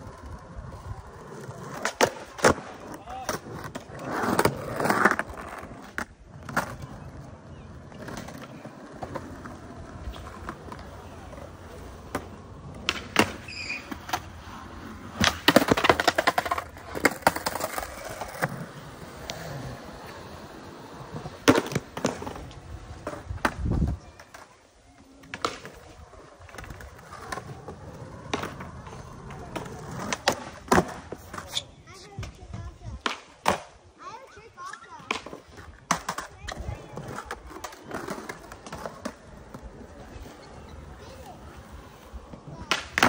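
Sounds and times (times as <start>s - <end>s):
skateboard clacking on ground: 0.0s - 33.8s, 34.6s - 43.0s
skateboard wheels rolling on concrete: 0.0s - 43.0s.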